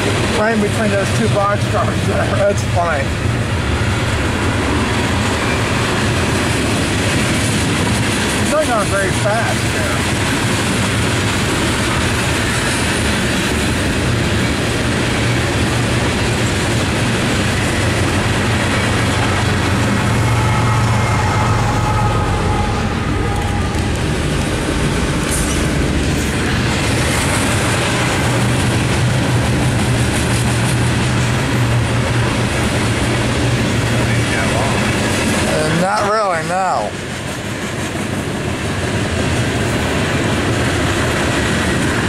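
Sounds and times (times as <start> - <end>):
diesel locomotive passing: 0.0 - 42.0
train wheels rumbling on rail: 0.0 - 42.0.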